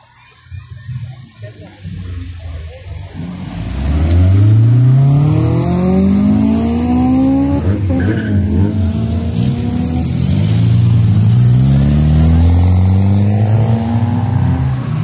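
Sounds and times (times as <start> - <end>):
car engine accelerating: 0.8 - 15.0.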